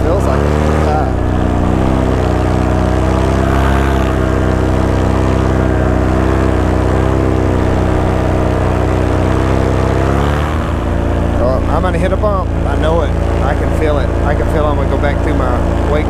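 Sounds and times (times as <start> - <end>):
paramotor engine and propeller running: 0.0 - 16.0.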